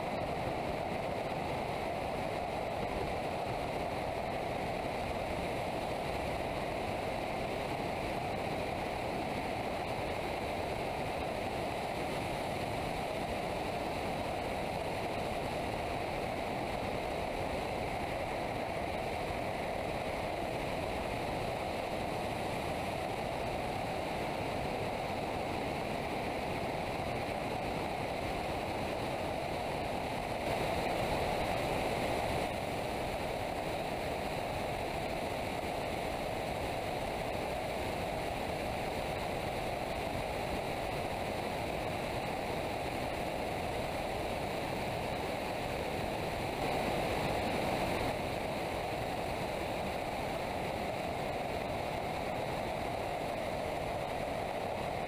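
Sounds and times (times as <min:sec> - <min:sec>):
wind rushing over camera: 0:00.0 - 0:55.0.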